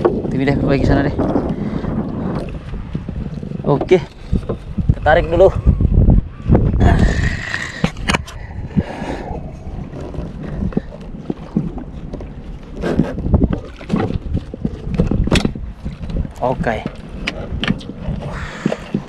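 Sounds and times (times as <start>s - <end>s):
water lapping against boat hull: 0.0s - 19.0s
wind buffeting microphone: 0.0s - 19.0s.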